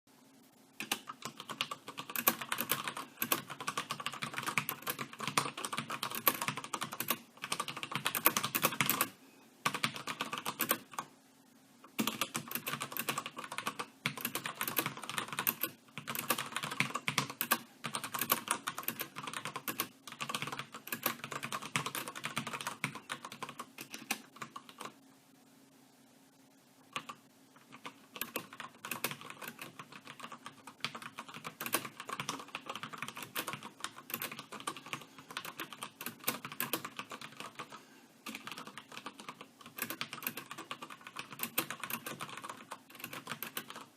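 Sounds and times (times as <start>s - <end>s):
fast mechanical keyboard typing: 0.8s - 11.1s, 11.9s - 25.0s, 26.9s - 43.9s.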